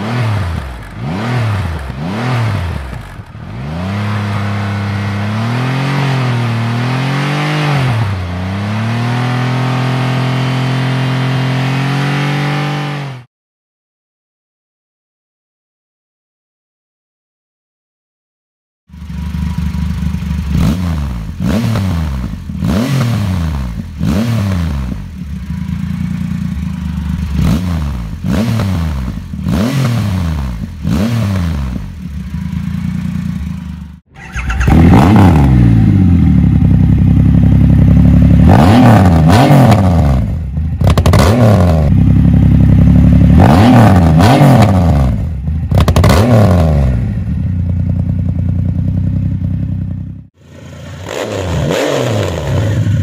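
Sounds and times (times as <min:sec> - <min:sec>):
motorcycle engine revving: 0:00.0 - 0:13.3, 0:18.9 - 0:53.0.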